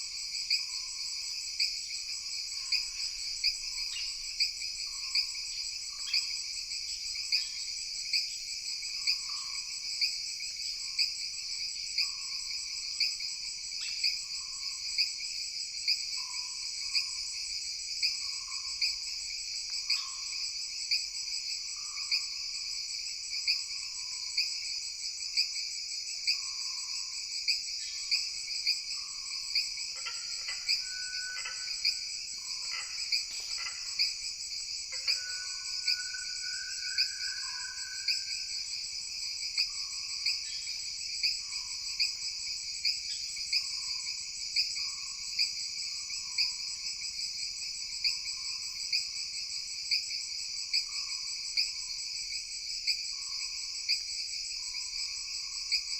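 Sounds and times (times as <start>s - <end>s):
crickets and insects chirring: 0.0s - 55.9s.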